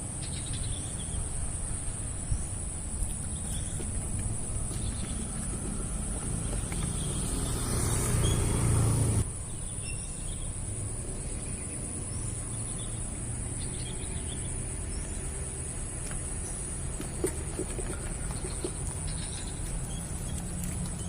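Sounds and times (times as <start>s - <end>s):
low rumble with hiss: 0.0s - 21.0s.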